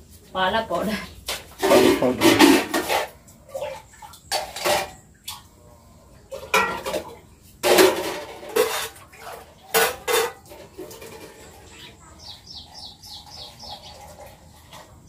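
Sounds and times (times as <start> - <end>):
steel kitchen vessels clinking: 1.4 - 5.4, 6.3 - 15.0.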